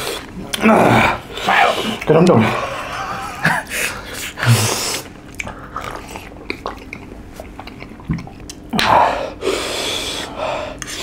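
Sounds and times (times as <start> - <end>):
person chewing and eating: 0.0 - 9.4.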